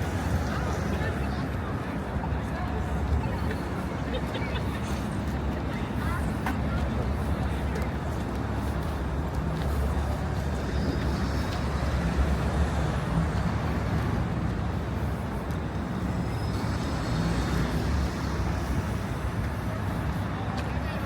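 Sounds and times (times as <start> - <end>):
passing traffic rumble: 0.0 - 21.0.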